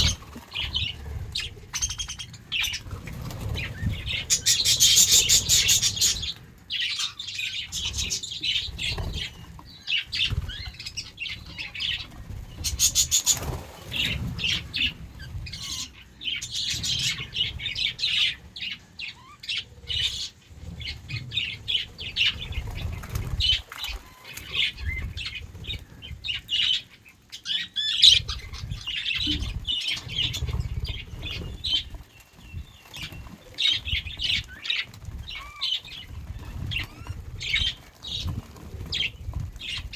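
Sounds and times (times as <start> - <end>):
budgerigars chirping: 0.0 - 38.3.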